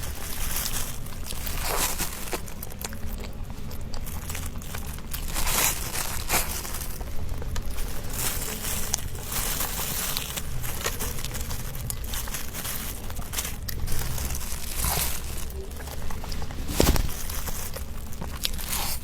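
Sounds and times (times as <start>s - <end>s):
person chewing and crunching: 0.0s - 19.0s.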